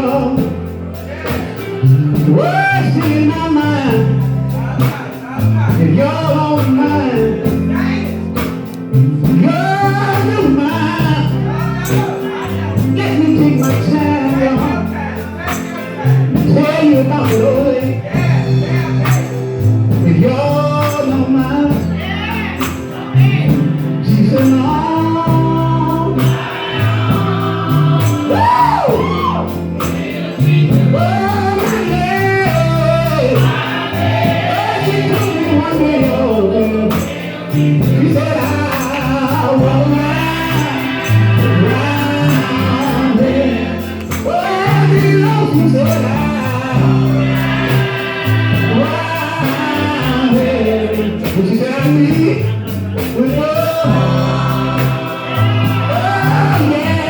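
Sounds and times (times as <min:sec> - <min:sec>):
band playing: 0:00.0 - 0:57.0
bass line: 0:00.0 - 0:57.0
gospel group singing: 0:00.0 - 0:57.0
lead voice singing: 0:00.0 - 0:57.0.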